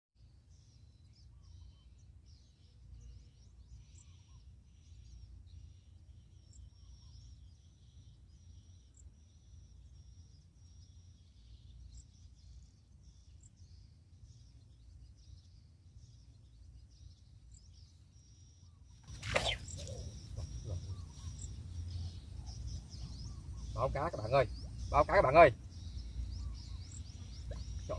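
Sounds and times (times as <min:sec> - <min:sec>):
small birds chirping: 0:00.2 - 0:27.9.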